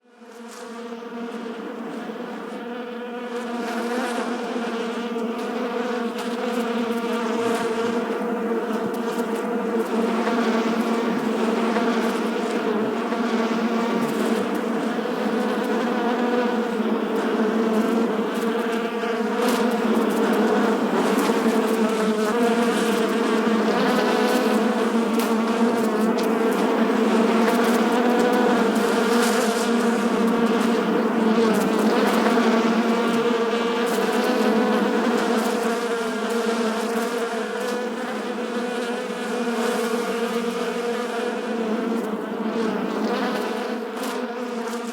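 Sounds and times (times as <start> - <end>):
honeybees buzzing: 0.3 - 44.9.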